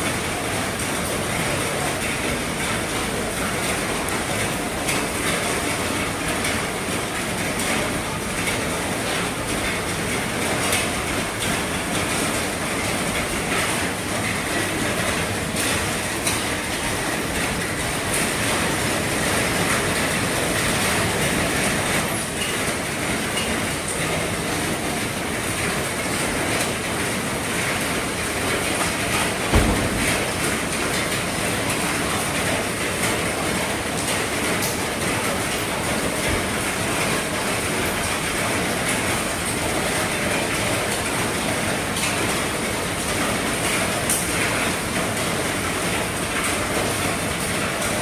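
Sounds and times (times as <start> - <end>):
heavy rain on a roof: 0.0 - 48.0.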